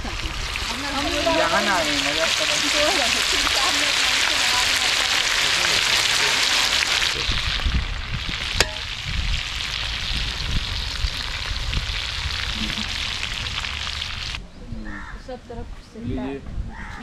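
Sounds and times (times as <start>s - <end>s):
chicken sizzling in oil: 0.0s - 14.4s.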